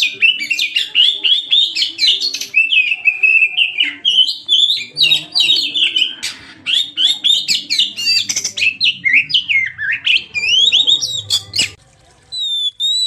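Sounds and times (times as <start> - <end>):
magpie-robin singing: 0.0 - 11.8.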